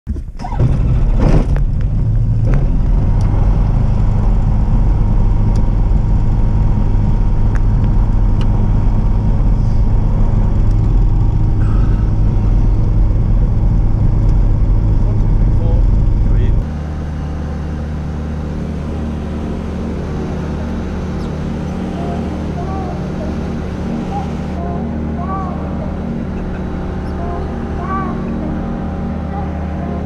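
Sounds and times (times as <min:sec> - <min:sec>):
motor glider engine and propeller drone: 0:00.2 - 0:30.0.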